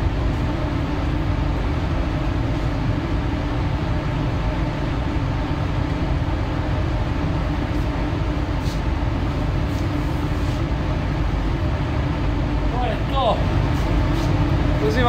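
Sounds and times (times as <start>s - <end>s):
constant low hum: 0.0s - 15.0s
rush of ventilation air: 0.0s - 15.0s.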